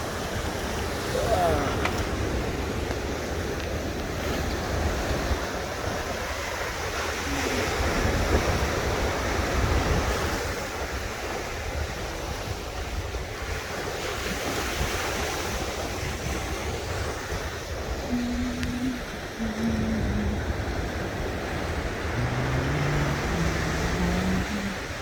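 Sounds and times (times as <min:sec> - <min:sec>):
sea waves breaking on a beach: 0:00.0 - 0:25.0
wind rumbling on microphone: 0:00.0 - 0:25.0.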